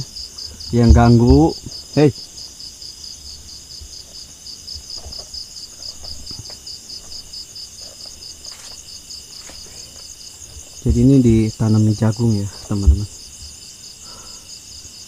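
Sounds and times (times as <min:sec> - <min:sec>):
insects chirping in pulsing trill: 0:00.0 - 0:15.0.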